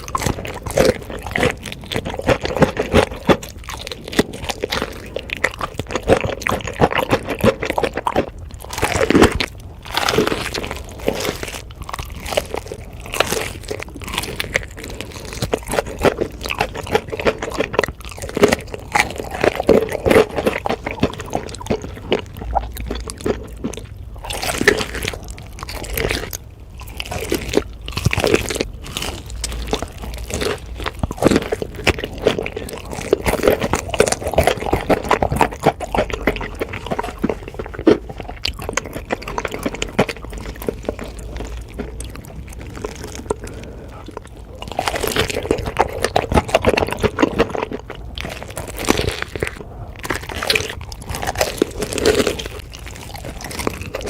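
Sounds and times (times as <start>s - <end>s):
person chewing crispy chicken: 0.0s - 54.0s.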